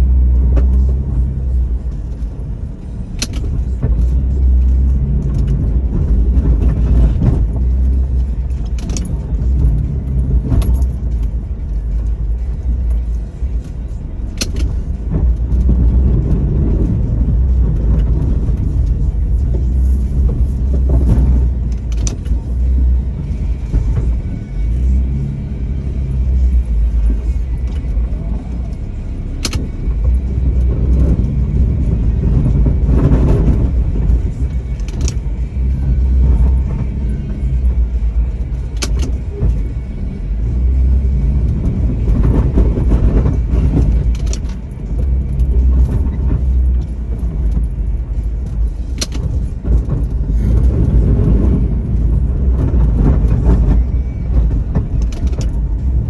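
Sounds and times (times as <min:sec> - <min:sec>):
engine low rumble: 0:00.0 - 0:56.0.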